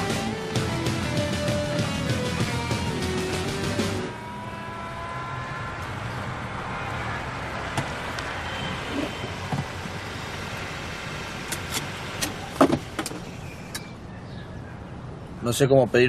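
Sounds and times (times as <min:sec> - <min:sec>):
car engine and tyres: 0:00.0 - 0:16.0.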